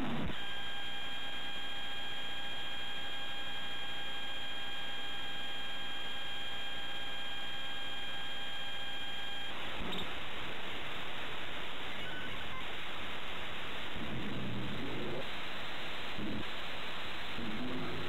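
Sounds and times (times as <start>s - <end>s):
electronic whine: 0.0s - 18.0s.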